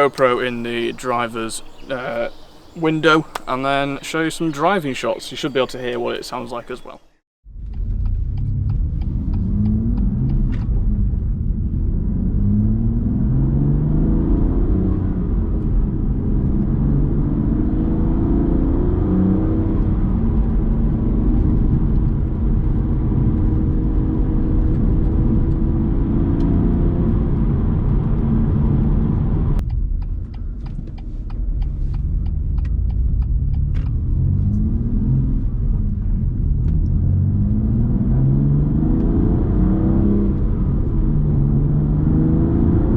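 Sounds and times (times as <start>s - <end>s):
car engine accelerating through gears: 7.6s - 42.9s.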